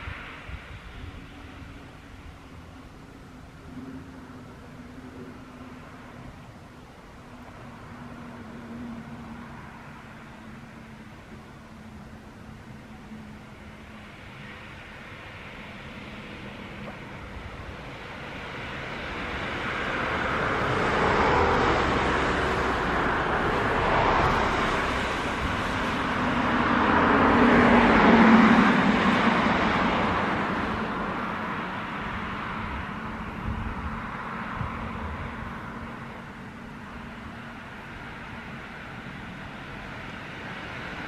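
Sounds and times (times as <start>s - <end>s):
car passing: 0.0s - 41.0s
vehicle engine hum: 0.0s - 41.0s.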